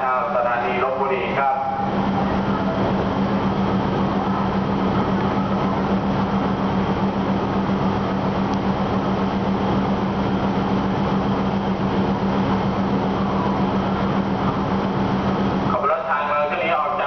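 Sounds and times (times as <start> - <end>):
diesel train engines idling: 0.0 - 17.0.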